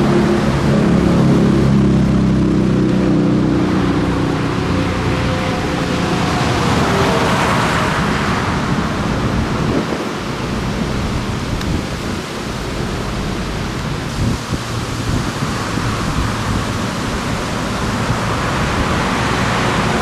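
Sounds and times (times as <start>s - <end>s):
truck engine tone: 0.0s - 20.0s
truck road and tyre noise: 0.0s - 20.0s.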